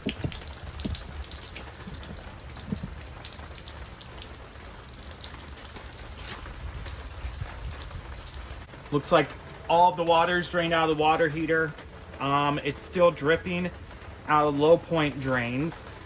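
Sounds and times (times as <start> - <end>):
water dripping onto ground: 0.0 - 16.0.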